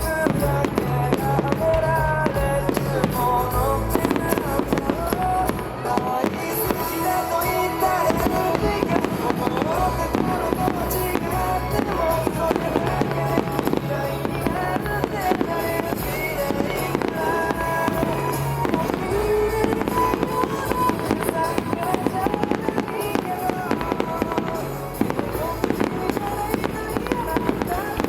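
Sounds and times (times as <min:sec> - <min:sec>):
fireworks bursting and crackling: 0:00.0 - 0:28.0
song with held notes and melody: 0:00.0 - 0:28.0.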